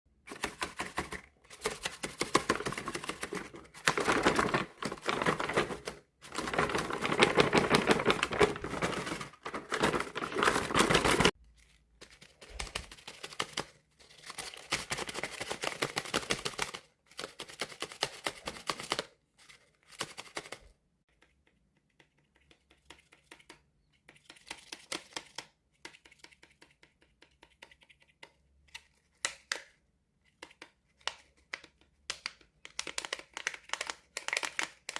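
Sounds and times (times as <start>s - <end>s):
paper puppet crinkling and clicking: 0.2s - 34.9s.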